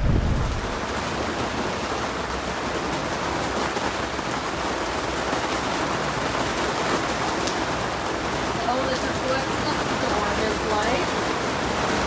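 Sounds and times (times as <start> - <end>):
rain on a hard surface: 0.0 - 12.0.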